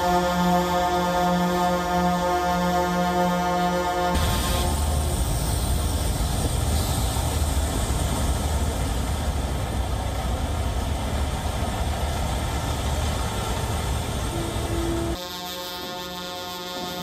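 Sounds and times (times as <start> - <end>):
diesel truck engines idling: 0.0 - 17.0.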